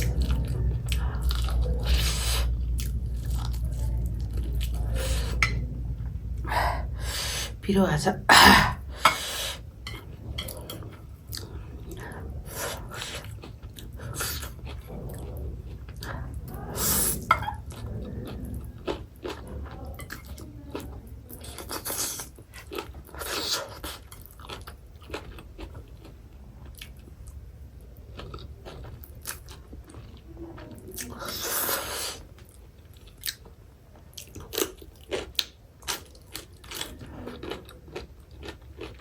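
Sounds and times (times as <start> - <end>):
person chewing and crunching food: 0.0 - 7.6, 8.4 - 39.0.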